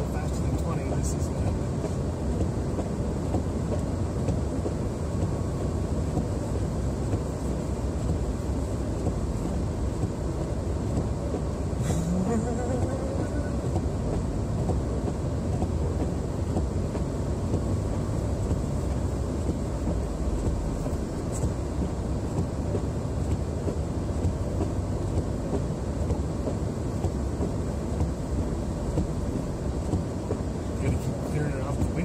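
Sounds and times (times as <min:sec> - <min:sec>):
snow hitting windshield: 0:00.0 - 0:32.0
truck engine rumble: 0:00.0 - 0:32.0.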